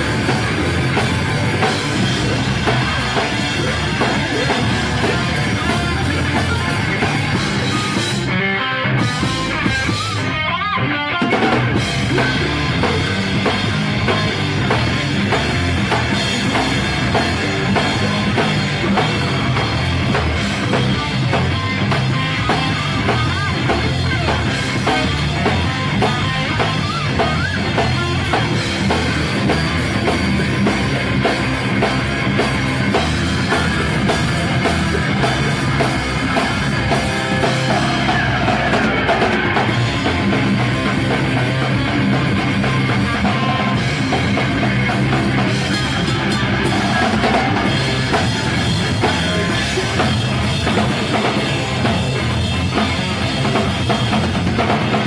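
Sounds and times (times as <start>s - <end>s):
loud live rock band: 0.0s - 55.0s.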